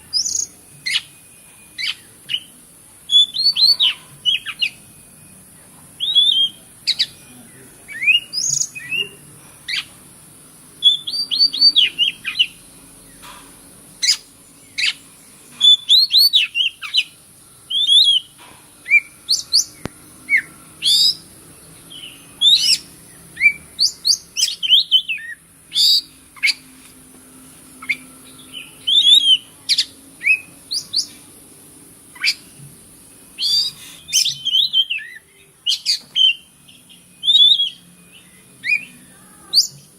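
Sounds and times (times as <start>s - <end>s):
bird singing whistled chirps: 0.0s - 5.4s, 6.0s - 9.9s, 10.8s - 13.2s, 14.0s - 26.6s, 27.8s - 31.2s, 32.1s - 32.6s, 33.4s - 39.9s
steady high-pitched hiss: 0.0s - 39.9s.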